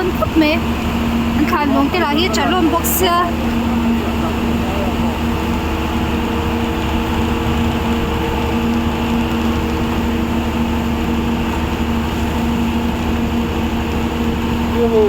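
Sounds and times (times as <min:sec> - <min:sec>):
steady tones: 0:00.0 - 0:15.0
vehicle engine hum: 0:00.0 - 0:15.0.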